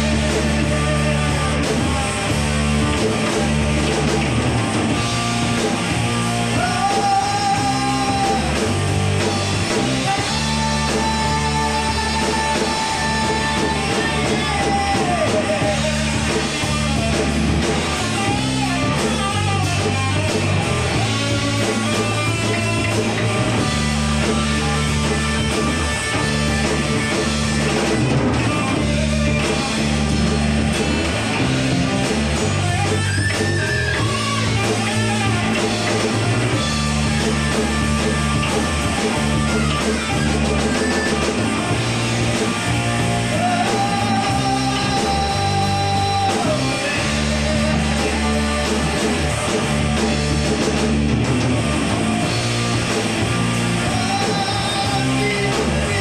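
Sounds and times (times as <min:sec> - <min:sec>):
distorted electric guitar: 0:00.0 - 0:56.0
drum kit: 0:00.0 - 0:56.0
electric bass: 0:00.0 - 0:56.0.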